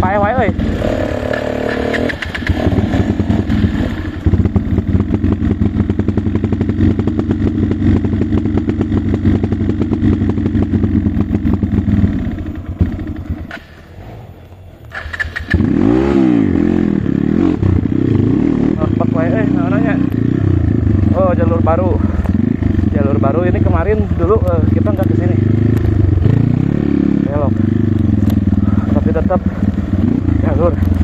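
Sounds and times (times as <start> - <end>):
dirt bike engines running: 0.0 - 31.0
engine revving: 0.0 - 31.0.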